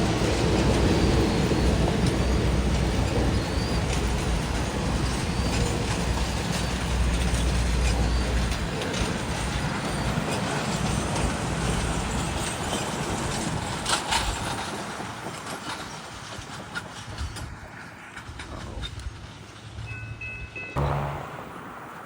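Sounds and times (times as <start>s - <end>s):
train rolling past: 0.0s - 22.0s.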